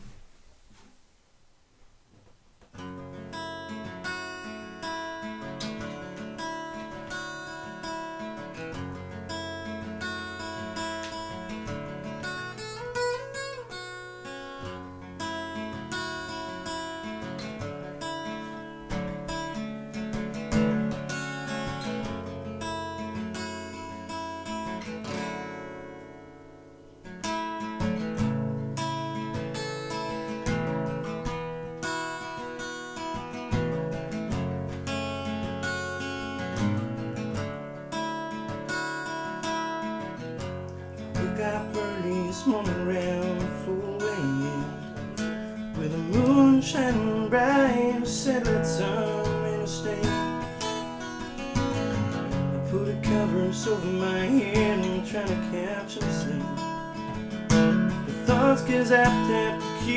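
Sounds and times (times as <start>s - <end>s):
acoustic guitar strumming: 2.1s - 59.9s.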